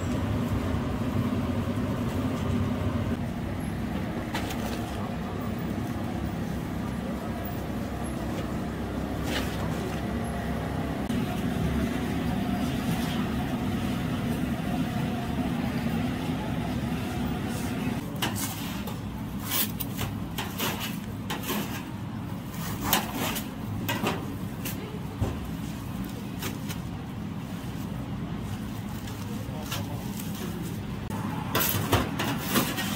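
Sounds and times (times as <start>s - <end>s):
street background rumble: 0.0s - 32.9s.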